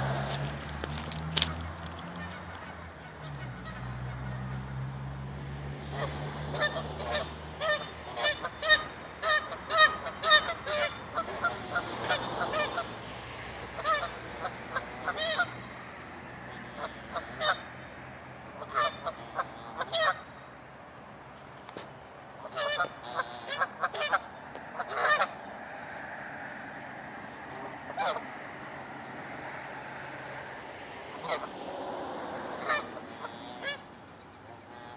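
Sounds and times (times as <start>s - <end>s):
geese honking: 1.4s - 20.7s, 21.8s - 34.9s.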